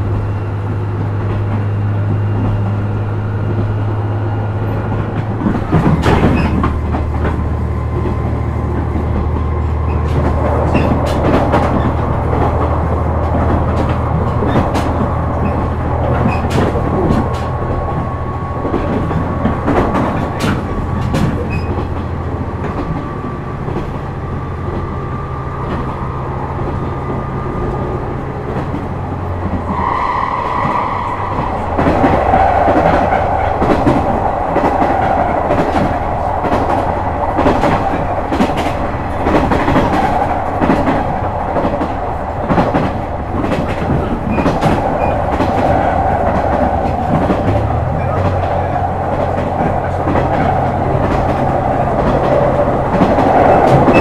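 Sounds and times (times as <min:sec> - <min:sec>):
train wheels clicking over rail joints: 0:04.6 - 0:54.0.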